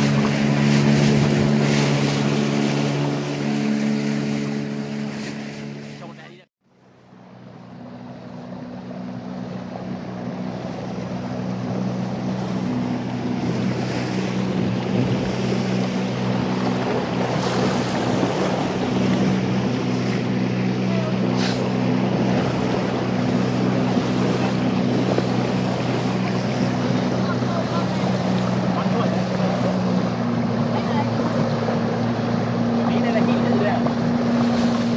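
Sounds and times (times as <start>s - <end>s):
wind on microphone: 0.0s - 5.9s, 9.4s - 34.9s
motorboat engine humming: 0.0s - 34.9s
water rushing along hull: 0.0s - 34.9s.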